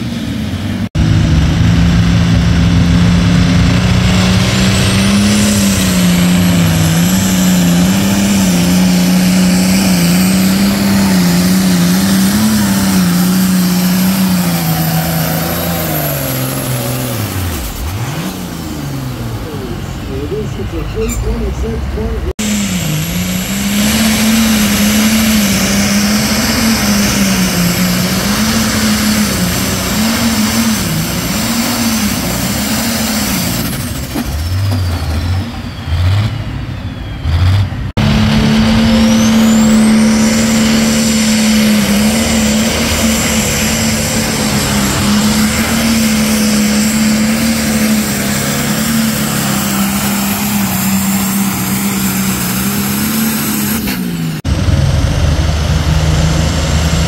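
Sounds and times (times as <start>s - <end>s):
diesel tractor engine straining: 0.0s - 57.0s.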